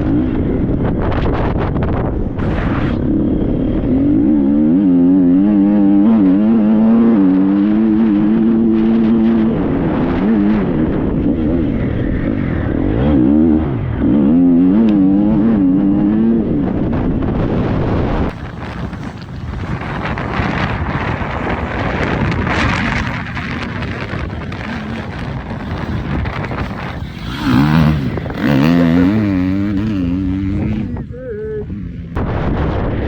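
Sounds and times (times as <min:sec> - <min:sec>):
motocross bike engine revving: 0:02.6 - 0:16.8, 0:18.3 - 0:32.2.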